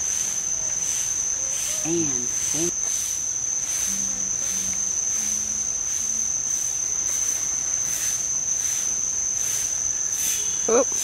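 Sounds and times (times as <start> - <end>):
tropical insects droning: 0.0 - 11.0.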